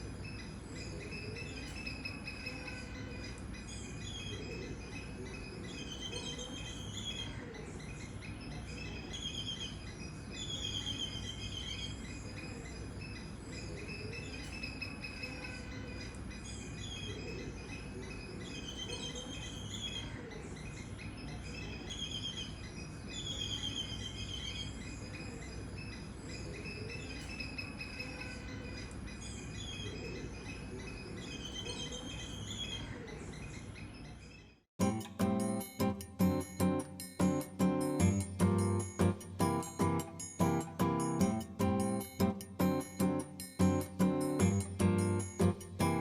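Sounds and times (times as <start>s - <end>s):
birds chirping: 0.0s - 46.0s.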